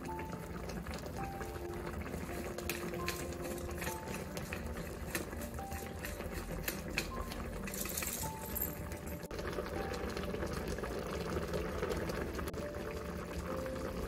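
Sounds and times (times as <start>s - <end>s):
pot simmering: 0.0s - 14.0s
soft background music: 0.0s - 14.0s.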